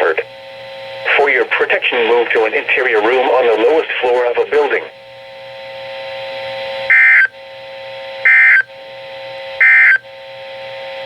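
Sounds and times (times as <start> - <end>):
steady humming tone: 0.0 - 11.0.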